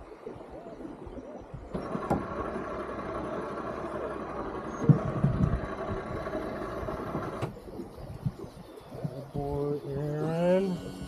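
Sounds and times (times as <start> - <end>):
outboard motor running: 1.7 - 11.0.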